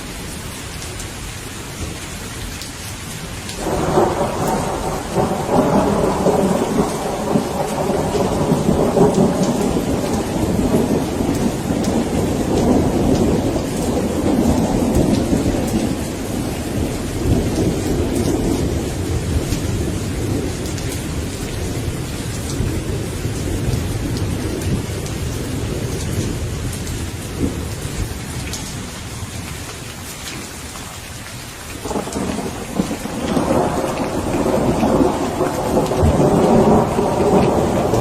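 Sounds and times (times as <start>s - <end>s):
steady rain: 0.0s - 38.0s
thunder rolling: 3.6s - 28.2s, 31.8s - 38.0s.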